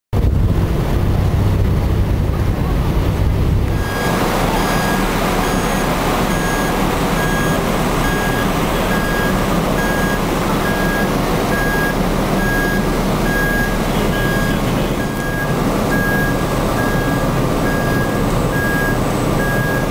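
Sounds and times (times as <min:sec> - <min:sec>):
low rumble: 0:00.2 - 0:18.5
steady background noise: 0:00.2 - 0:19.9
electronic warning beep: 0:03.8 - 0:19.9.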